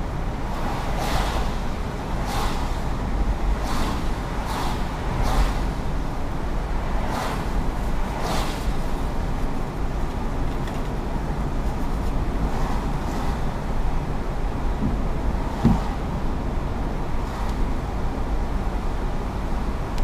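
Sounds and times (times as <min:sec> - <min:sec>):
car road rumble: 0:00.0 - 0:20.0
tyres swishing on wet road: 0:00.0 - 0:20.0.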